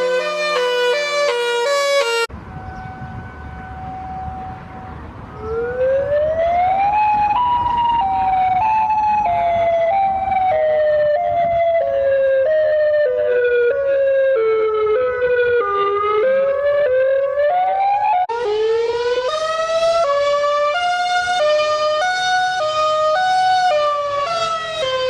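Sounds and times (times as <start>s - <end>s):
warning siren alternating tones: 0.0s - 25.0s.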